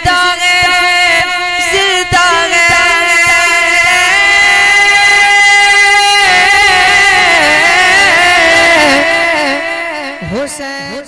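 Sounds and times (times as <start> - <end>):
man singing chant-like melody: 0.0 - 11.0.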